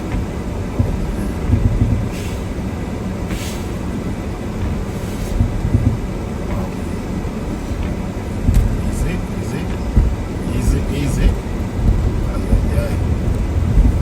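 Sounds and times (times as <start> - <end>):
storm wind buffeting a car: 0.0 - 14.0.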